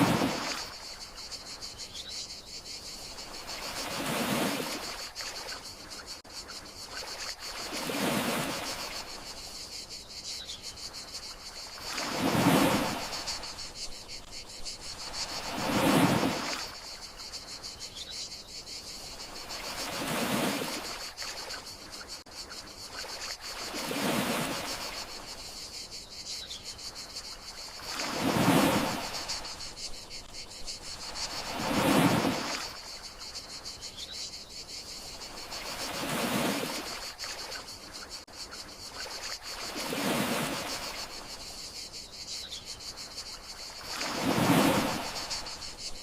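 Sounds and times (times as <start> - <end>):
gentle sea waves washing ashore: 0.0 - 1.7, 3.0 - 9.9, 10.9 - 17.6, 18.9 - 22.2, 22.8 - 25.6, 27.0 - 33.6, 35.0 - 38.3, 38.9 - 41.7, 43.0 - 46.0
crickets chirping: 0.0 - 46.0.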